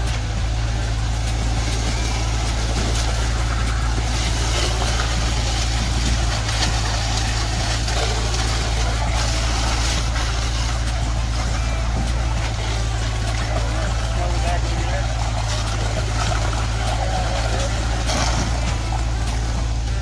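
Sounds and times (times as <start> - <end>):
concrete pump truck running: 0.0 - 20.0.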